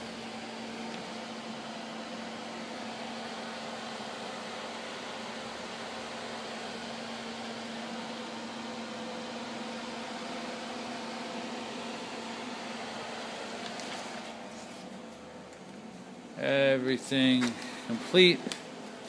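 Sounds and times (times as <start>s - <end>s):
electrical cabinet humming: 0.0s - 19.0s.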